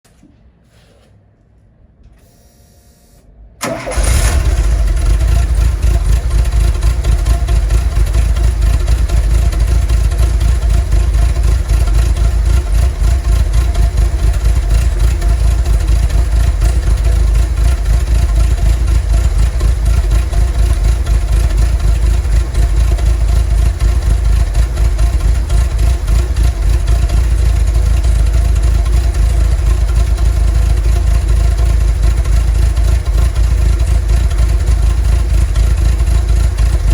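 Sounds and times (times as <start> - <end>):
engine starting and idling: 3.6 - 36.9.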